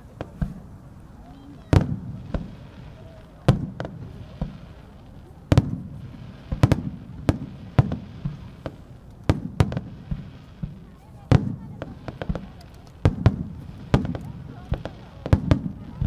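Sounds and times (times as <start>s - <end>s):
firework shells bursting: 1.6s - 16.0s.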